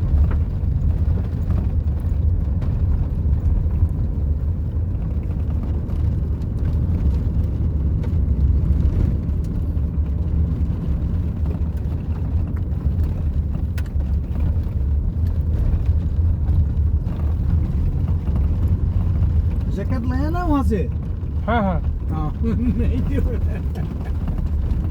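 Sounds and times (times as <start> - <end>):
vehicle rumble from on board: 0.0 - 24.9.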